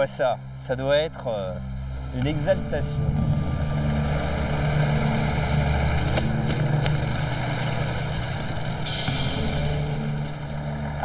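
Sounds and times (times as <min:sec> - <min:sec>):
diesel engine idling: 0:01.4 - 0:11.0.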